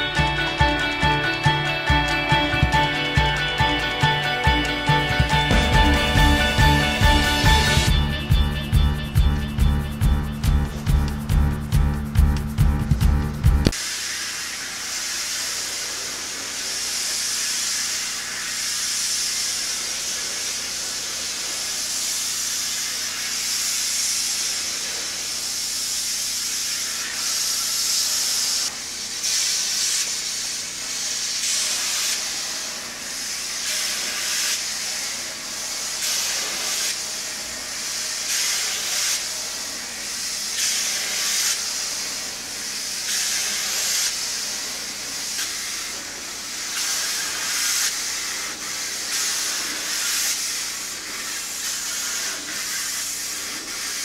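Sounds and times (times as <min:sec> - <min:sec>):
pressure washer jet hissing: 0:02.9 - 0:11.4, 0:13.7 - 0:54.0.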